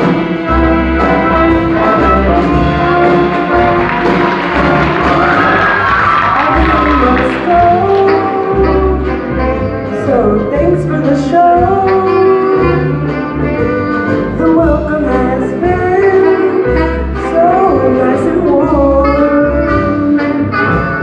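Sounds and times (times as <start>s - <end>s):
ensemble playing live music: 0.0s - 21.0s.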